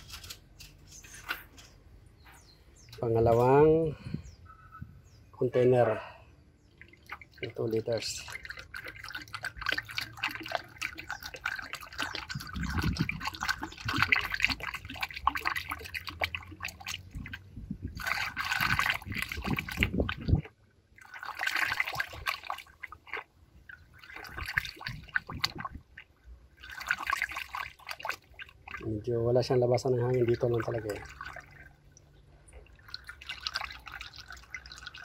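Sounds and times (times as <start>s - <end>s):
liquid pouring into funnel: 6.8s - 35.0s.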